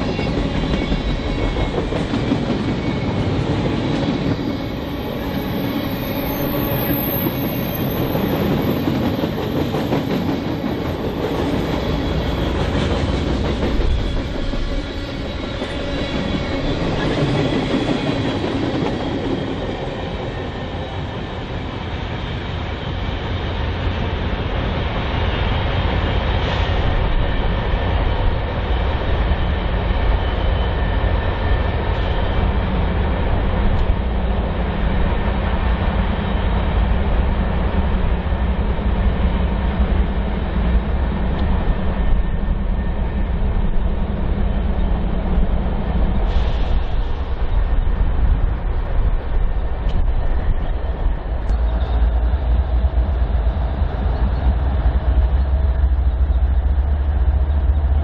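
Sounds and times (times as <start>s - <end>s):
diesel locomotive engine drone: 0.0s - 58.0s
freight train wheels clacking: 0.0s - 58.0s.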